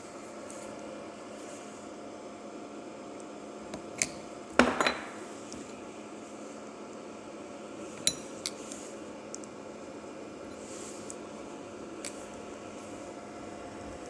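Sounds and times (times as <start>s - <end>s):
cooling fan and pump running: 0.0s - 14.0s.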